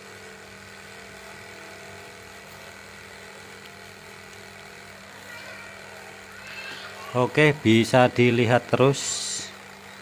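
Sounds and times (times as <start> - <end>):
electric jigsaw cutting wood: 0.0 - 10.0.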